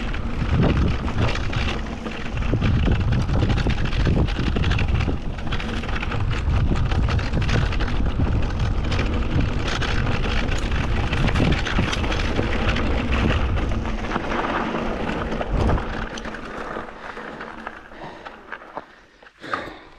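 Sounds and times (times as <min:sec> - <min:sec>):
wind buffeting microphone: 0:00.0 - 0:17.1
bike tyres crackling on gravel: 0:00.0 - 0:19.6.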